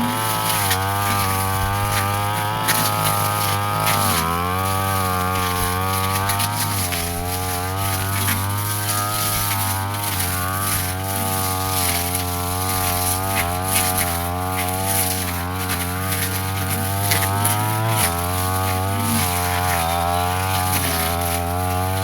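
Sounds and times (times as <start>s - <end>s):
brush cutter engine running: 0.0s - 22.0s
brush cutter hitting grass: 0.0s - 22.0s.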